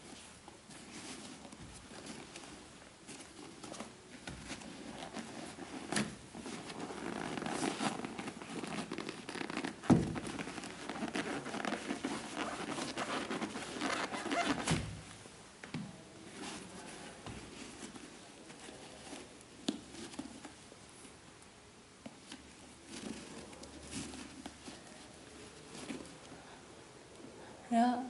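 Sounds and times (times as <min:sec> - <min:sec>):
sneaker rustling and rubbing: 0:00.0 - 0:15.1, 0:16.2 - 0:21.2, 0:22.0 - 0:26.3.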